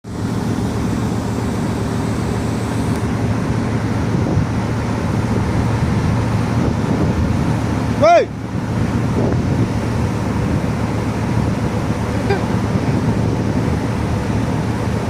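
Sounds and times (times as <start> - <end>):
ship engine humming: 0.0 - 15.0.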